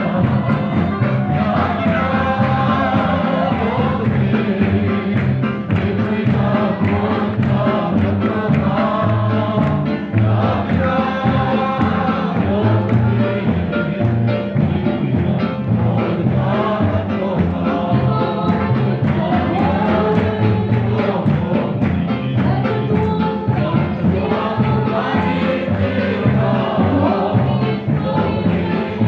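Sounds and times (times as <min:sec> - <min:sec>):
music with pulsing bass: 0:00.0 - 0:29.0
voices singing together: 0:00.0 - 0:29.0.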